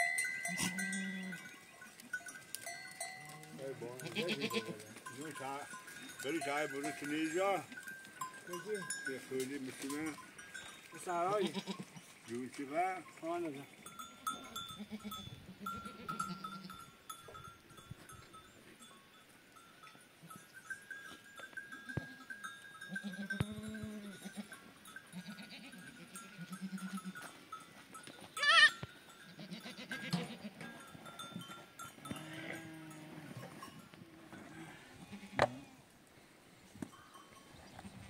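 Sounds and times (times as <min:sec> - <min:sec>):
faint steady ringing: 0:00.0 - 0:11.9, 0:12.6 - 0:34.8, 0:36.8 - 0:37.8
sheep and goats bleating: 0:00.0 - 0:16.9, 0:21.8 - 0:35.8.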